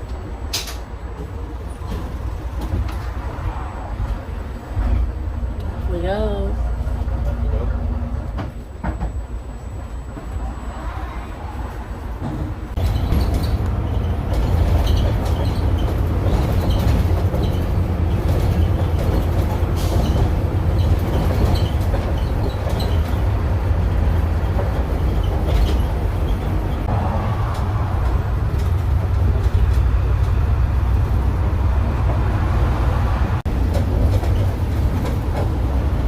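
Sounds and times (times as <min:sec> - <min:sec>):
bus body rattling and creaking: 0:00.0 - 0:36.0
bus engine rumble: 0:00.0 - 0:36.0.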